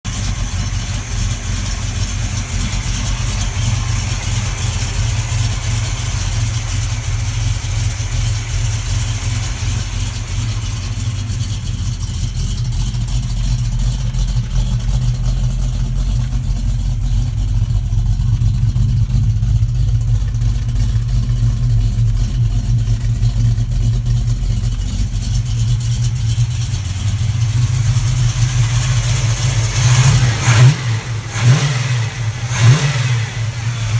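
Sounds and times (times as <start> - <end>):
car engine idling with lopey exhaust: 0.0 - 33.9.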